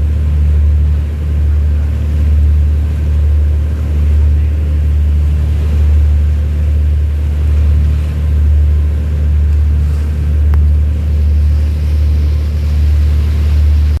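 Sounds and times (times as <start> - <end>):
ship engine rumble: 0.0 - 14.0.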